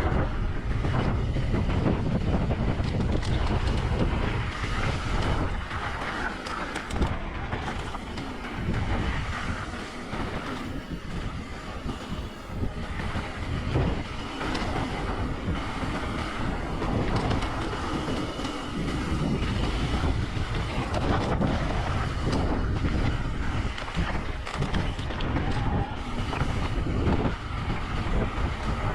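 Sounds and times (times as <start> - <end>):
wind on microphone: 0.0 - 28.9.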